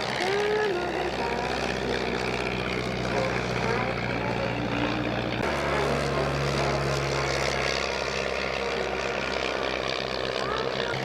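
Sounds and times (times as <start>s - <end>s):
propeller aircraft engine: 0.0s - 11.0s.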